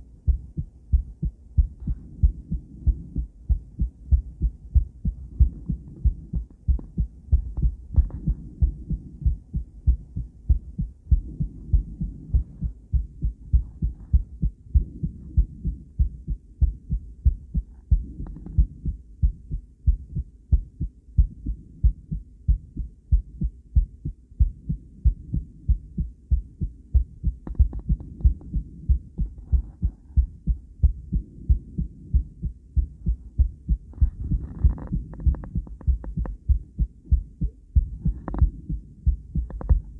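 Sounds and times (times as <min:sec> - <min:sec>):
doppler heartbeat pulses: 0:00.0 - 0:39.9.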